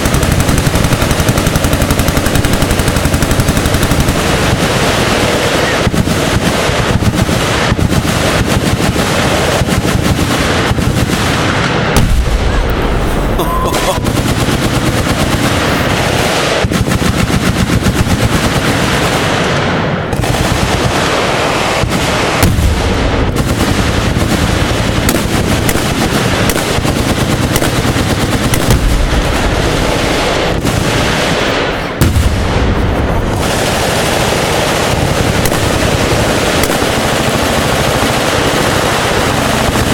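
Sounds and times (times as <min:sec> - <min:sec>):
machine gun fire: 0:00.0 - 0:39.9.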